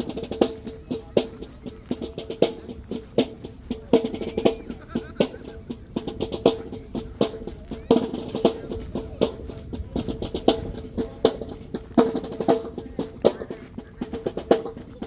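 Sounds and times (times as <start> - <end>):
snare drum rolls: 0.0 - 15.0.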